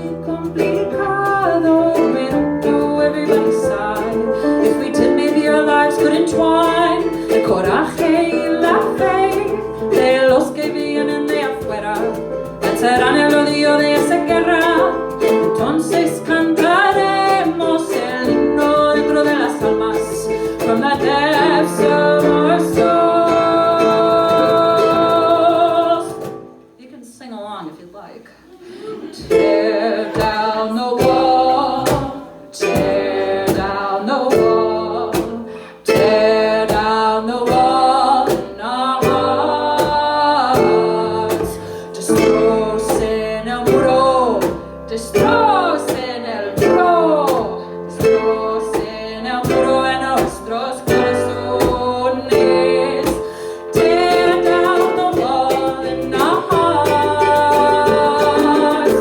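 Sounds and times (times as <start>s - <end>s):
strummed acoustic string instrument: 0.0s - 26.8s, 28.6s - 59.0s
woman singing: 0.0s - 28.2s, 28.8s - 59.0s.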